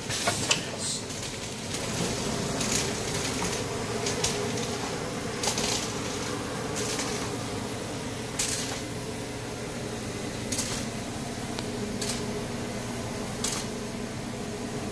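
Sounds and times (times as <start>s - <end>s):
steady machine hum: 0.0s - 14.9s.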